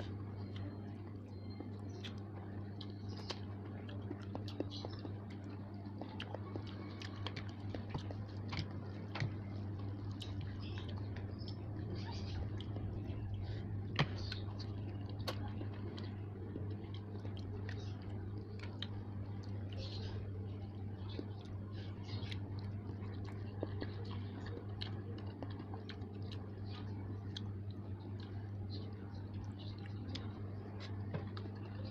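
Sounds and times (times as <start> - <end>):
mouth chewing noodles: 0.0 - 31.9
steady low hum: 0.0 - 31.9.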